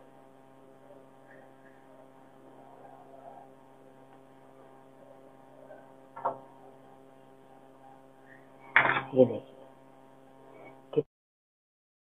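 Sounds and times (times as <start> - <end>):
steady electrical hum: 0.0 - 11.1.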